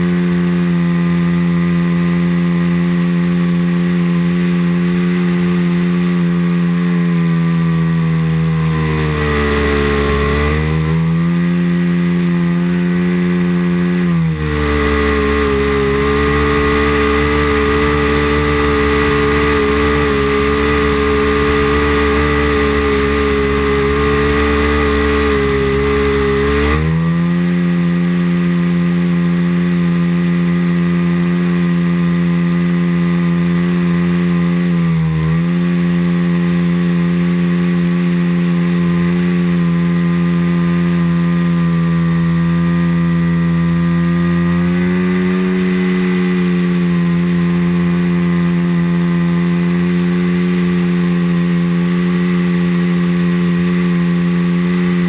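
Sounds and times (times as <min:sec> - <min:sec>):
model airplane engine running: 0:00.0 - 0:55.0.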